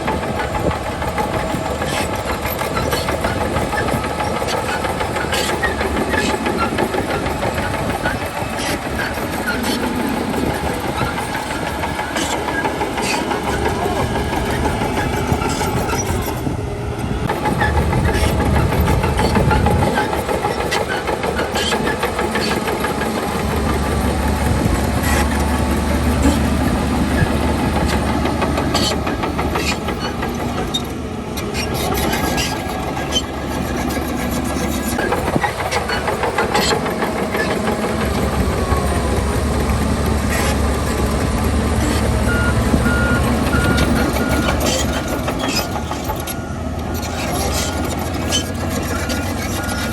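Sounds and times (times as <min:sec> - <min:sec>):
diesel machinery engine rumble: 0:00.0 - 0:49.9.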